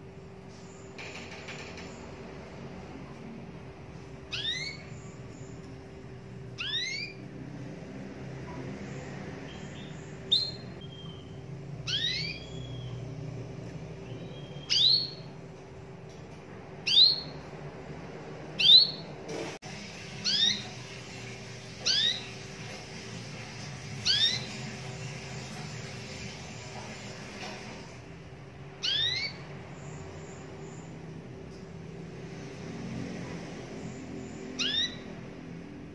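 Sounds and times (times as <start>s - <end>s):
canary chirping: 3.9s - 15.8s, 16.8s - 17.8s, 18.5s - 28.0s, 28.6s - 35.9s.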